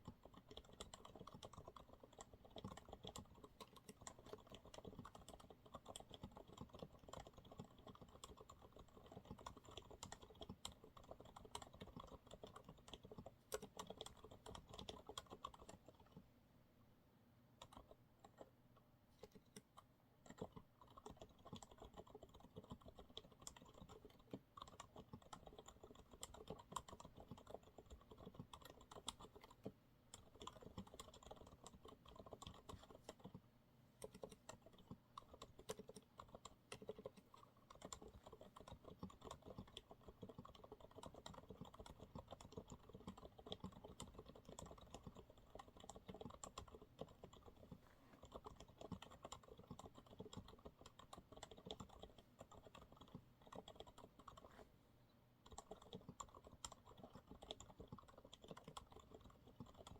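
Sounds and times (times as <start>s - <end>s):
soft mechanical keyboard typing: 0.0s - 16.3s, 17.5s - 59.9s.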